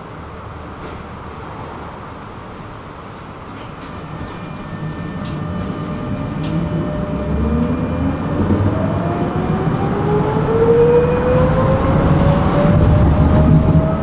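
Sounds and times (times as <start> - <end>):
wheels rumbling on rails: 0.0 - 14.0
tram motor whine rising: 1.6 - 14.0.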